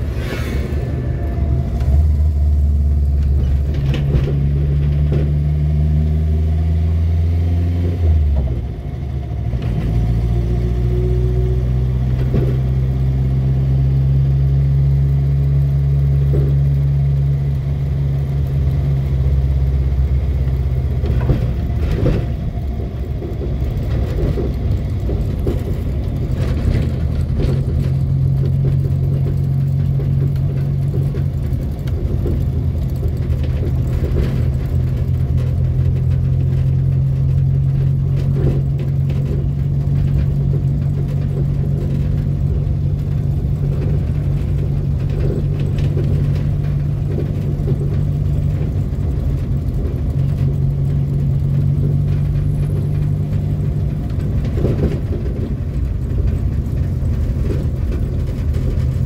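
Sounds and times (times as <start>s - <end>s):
car engine hum from inside cabin: 0.0s - 59.0s.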